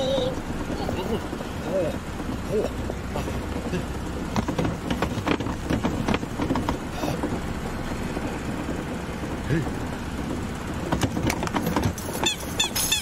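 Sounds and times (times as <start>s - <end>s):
rattling knocks and clatters: 0.4s - 13.0s.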